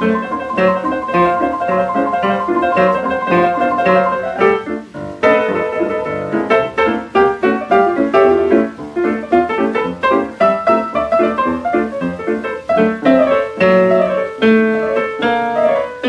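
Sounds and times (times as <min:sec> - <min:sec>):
jazz piano: 0:00.0 - 0:16.0.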